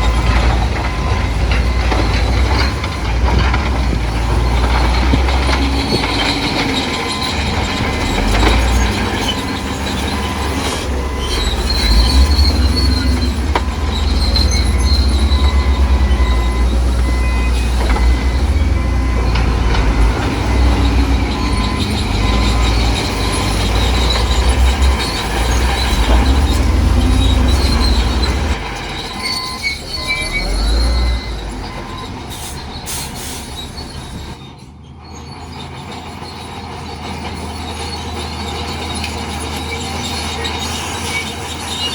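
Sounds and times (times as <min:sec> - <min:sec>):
bulldozer diesel engine running: 0:00.0 - 0:41.9
crawler tracks squealing: 0:00.0 - 0:41.9.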